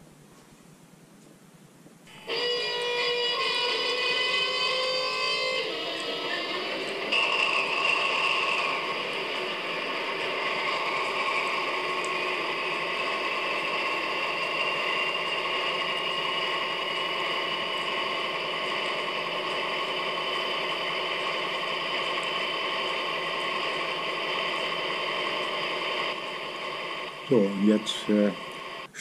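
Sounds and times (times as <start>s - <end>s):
diesel locomotive engine running: 2.1s - 29.0s
high engine whine: 2.1s - 29.0s.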